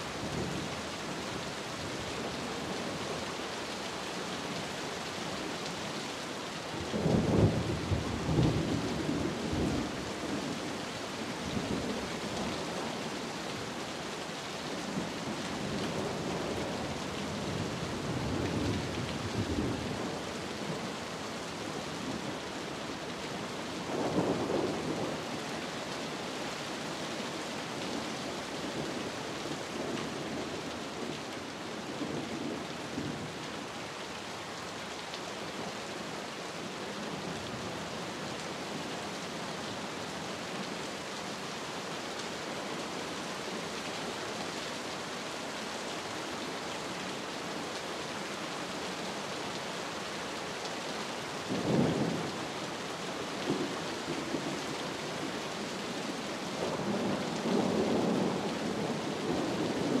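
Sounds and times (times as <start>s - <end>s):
steady rain: 0.0s - 60.0s.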